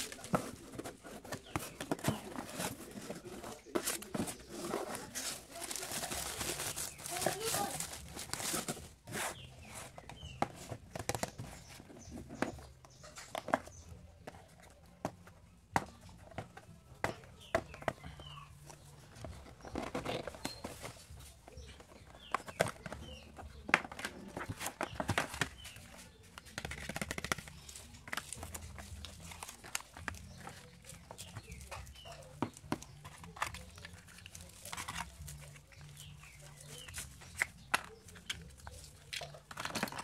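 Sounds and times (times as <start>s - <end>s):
paper and cardboard rustling: 0.0s - 40.0s.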